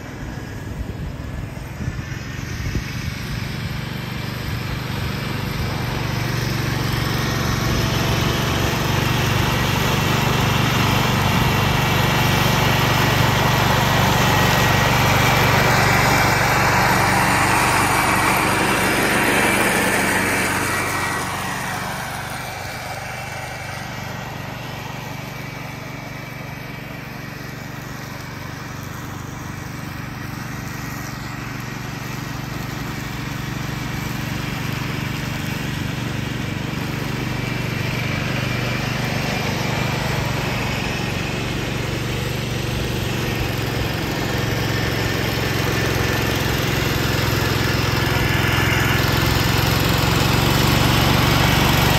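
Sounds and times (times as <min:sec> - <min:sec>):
tractor mower engine running: 0:00.0 - 0:51.9.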